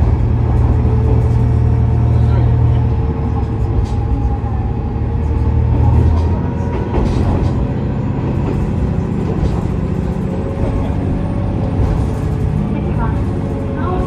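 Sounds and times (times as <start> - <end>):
diesel engine drone: 0.0 - 14.0
wheels rumbling on rails: 0.0 - 14.0.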